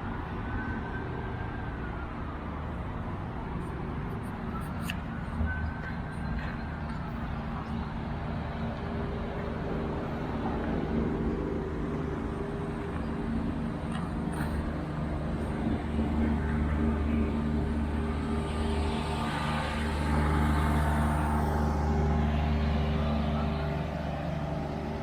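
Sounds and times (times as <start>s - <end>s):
traffic rumble: 0.0s - 25.0s
vehicle engine humming: 0.0s - 25.0s.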